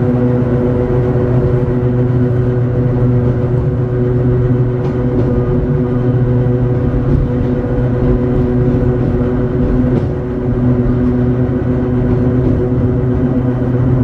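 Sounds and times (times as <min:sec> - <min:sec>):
steel wheels rumbling on rails: 0:00.0 - 0:14.0
traction motor hum: 0:00.0 - 0:14.0.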